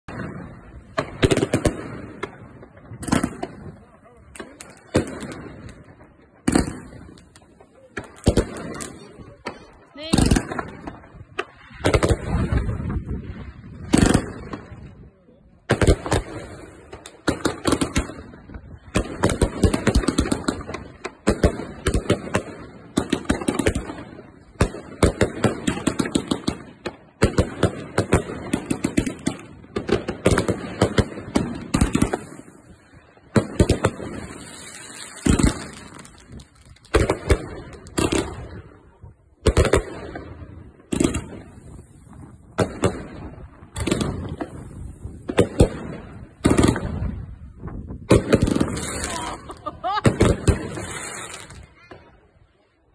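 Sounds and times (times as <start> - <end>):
firework battery volleys crackling: 0.0 - 15.0, 15.6 - 52.9.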